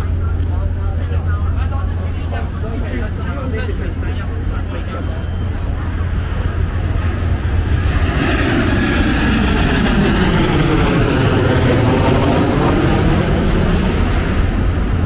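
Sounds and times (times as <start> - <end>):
airplane engine rushing overhead: 0.0 - 15.0.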